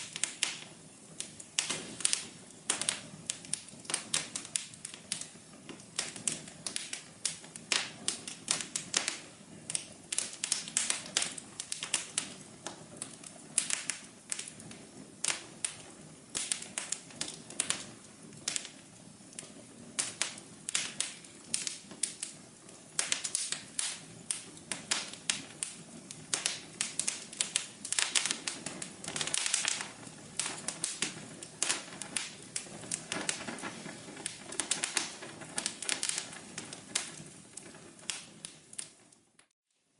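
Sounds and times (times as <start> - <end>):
rumble of flames: 0.0 - 39.5
wood fire crackling and popping: 0.0 - 39.9.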